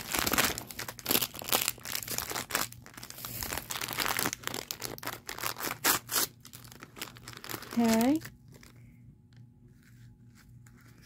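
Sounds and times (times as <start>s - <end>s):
wrapping crumpled crackling: 0.0s - 8.9s.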